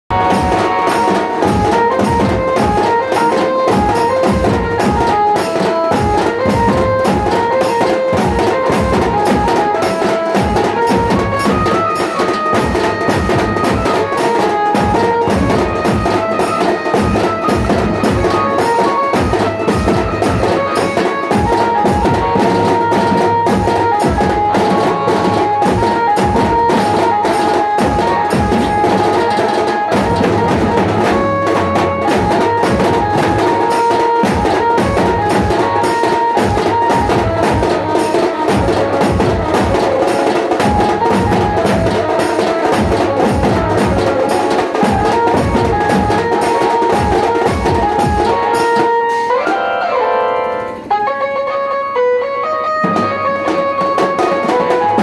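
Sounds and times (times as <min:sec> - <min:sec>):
drums beaten fast: 0:00.1 - 0:51.4, 0:52.4 - 0:55.0
melody of held notes: 0:00.1 - 0:55.0.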